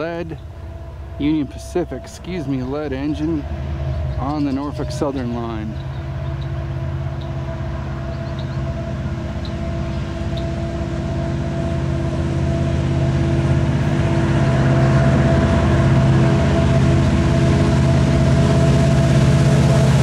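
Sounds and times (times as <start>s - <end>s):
locomotive diesel engines droning: 0.0s - 20.0s.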